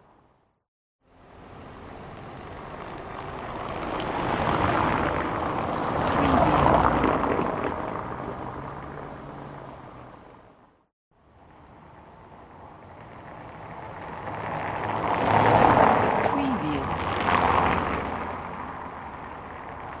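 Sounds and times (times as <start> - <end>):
car passing by: 1.1 - 20.0.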